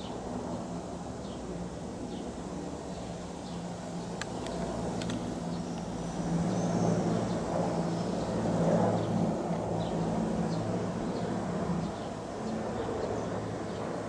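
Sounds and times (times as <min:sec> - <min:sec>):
helicopter rotor drone: 0:00.0 - 0:14.0.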